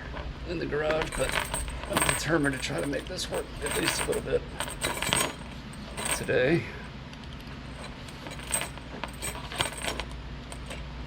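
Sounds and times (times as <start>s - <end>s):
metal chain clinking: 0.8s - 6.6s, 7.3s - 10.8s.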